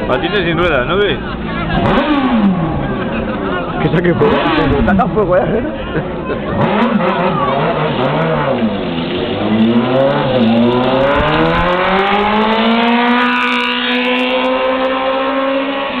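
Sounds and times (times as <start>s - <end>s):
motorcycle engine accelerating: 0.1s - 5.7s, 6.4s - 16.0s.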